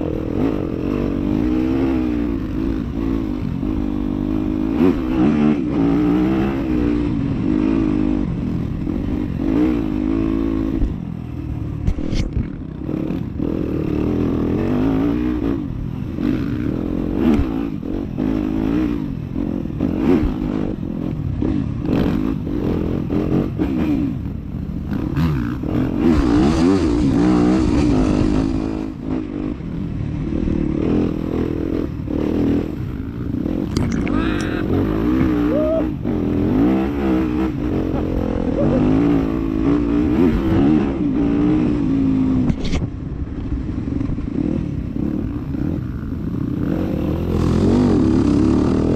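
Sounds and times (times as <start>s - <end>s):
dirt bike engine revving: 0.0s - 11.3s, 12.5s - 42.5s, 43.6s - 48.9s.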